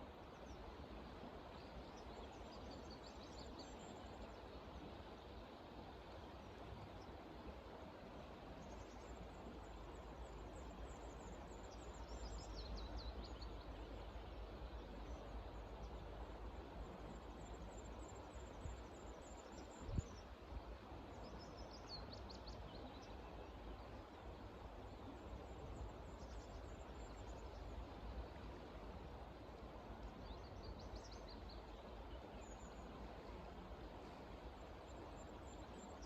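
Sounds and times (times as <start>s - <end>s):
low steady background rumble: 0.0s - 36.0s.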